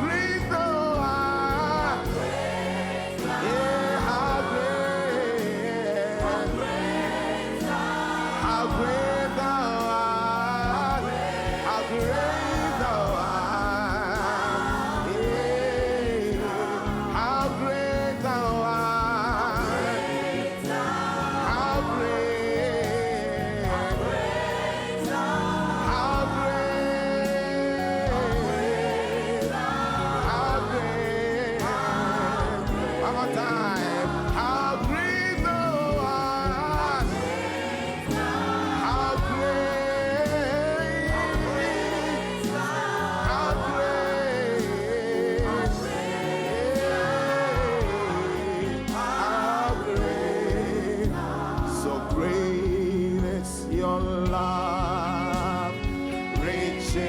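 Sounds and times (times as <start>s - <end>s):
instrumental backing: 0.0s - 57.0s
voices singing gospel: 0.0s - 57.0s.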